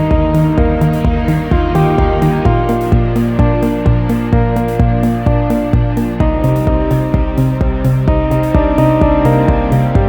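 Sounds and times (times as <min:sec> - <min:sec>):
background music with steady beat: 0:00.0 - 0:10.0
sustained synthesizer notes: 0:00.0 - 0:10.0.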